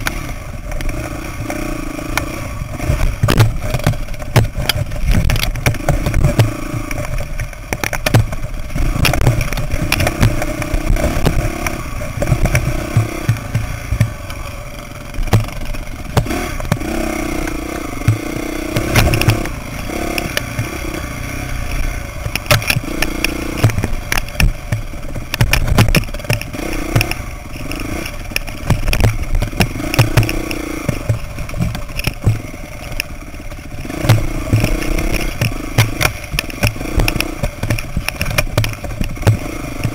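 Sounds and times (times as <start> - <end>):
bike rattling over rocks: 0.0 - 39.9
dirt bike engine revving: 0.0 - 39.9.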